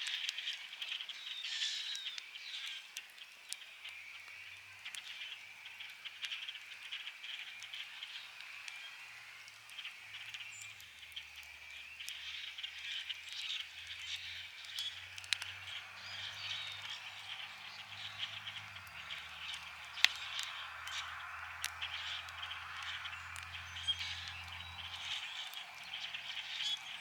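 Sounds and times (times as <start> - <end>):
campfire crackling and popping: 0.0 - 27.0
frogs calling: 3.6 - 27.0.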